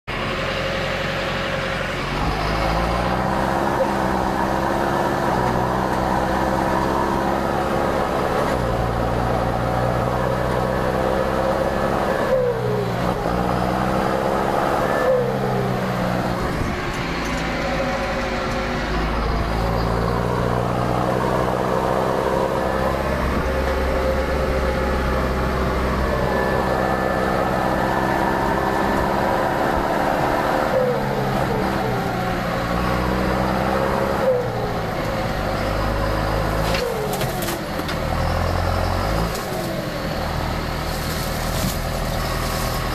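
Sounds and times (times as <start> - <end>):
tractor engine pulling hard: 0.0 - 42.9.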